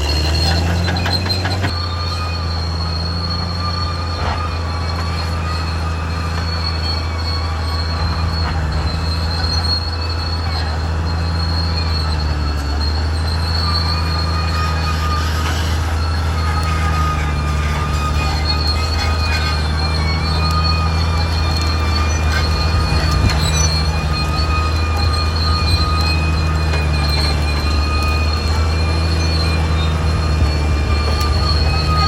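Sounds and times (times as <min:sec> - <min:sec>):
bulldozer diesel engine droning: 0:00.0 - 0:32.0
high-pitched metallic track squeal: 0:00.0 - 0:32.0.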